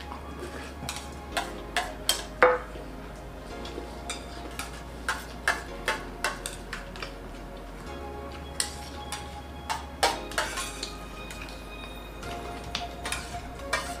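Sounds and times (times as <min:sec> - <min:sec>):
spoons clinking on metal plates: 0:00.0 - 0:02.7, 0:03.7 - 0:07.2, 0:08.4 - 0:14.0.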